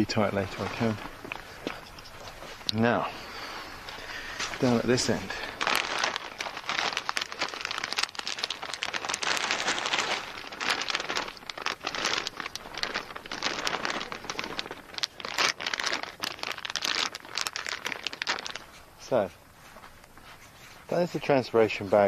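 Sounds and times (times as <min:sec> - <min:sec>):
plastic bag crinkling: 0:00.1 - 0:20.6.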